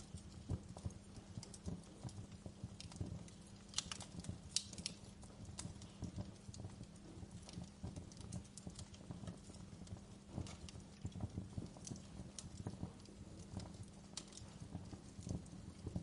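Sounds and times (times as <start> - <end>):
burning wood snapping and popping: 0.0 - 16.0.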